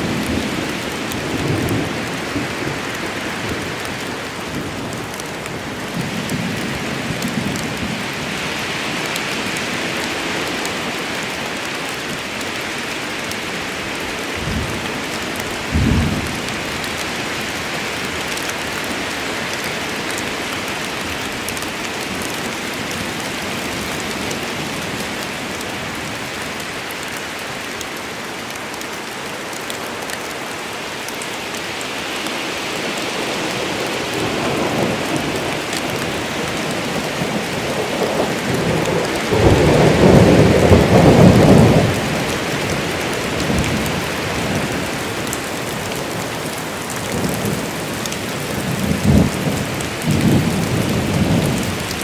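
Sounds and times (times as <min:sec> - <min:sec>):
rain falling on leaves: 0:00.0 - 0:52.0.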